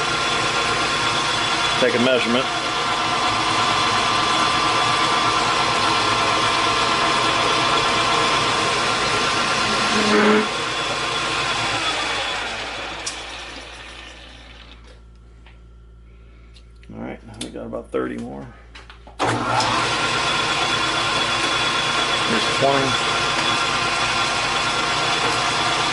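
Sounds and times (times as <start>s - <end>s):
lathe winding down: 0.0s - 14.8s, 19.2s - 25.9s
metal lathe whining: 0.0s - 14.8s, 19.2s - 25.9s.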